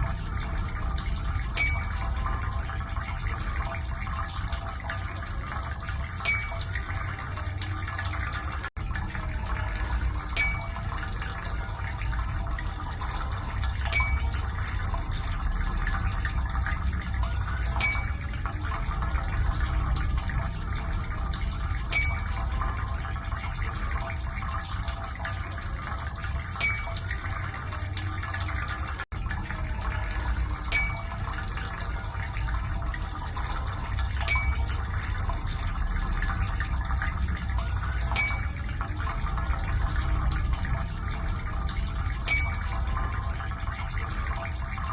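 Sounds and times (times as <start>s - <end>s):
watery rushing with hum: 0.0s - 44.9s.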